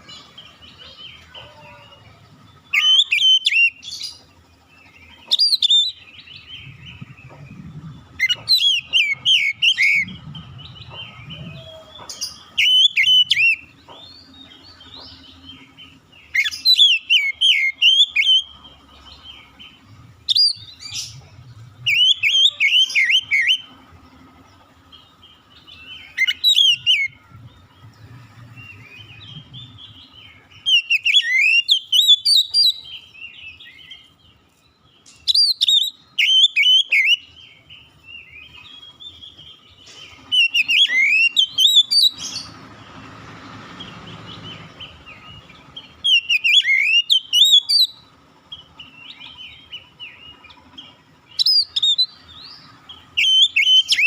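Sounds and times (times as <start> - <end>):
bird singing whistled notes: 2.4 - 23.8, 24.9 - 42.6, 44.0 - 54.0.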